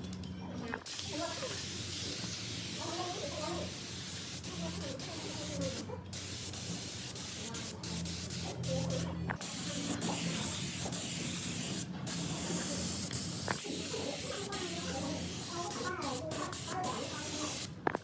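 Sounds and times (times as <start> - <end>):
compressed-air tool hissing: 0.9 - 18.0.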